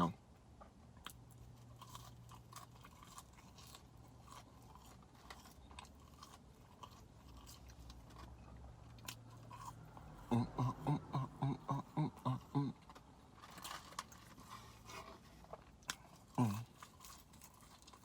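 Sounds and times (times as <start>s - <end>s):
person chewing and crunching food: 0.4s - 18.0s.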